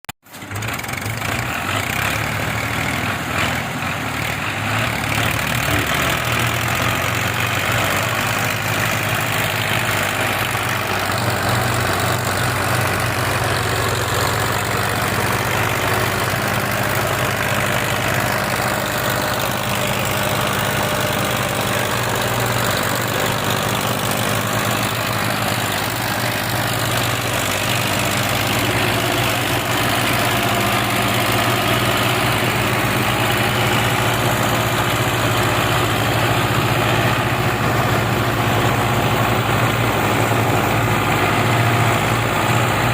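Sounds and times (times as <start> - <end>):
tractor diesel engine running: 0.2 - 42.9.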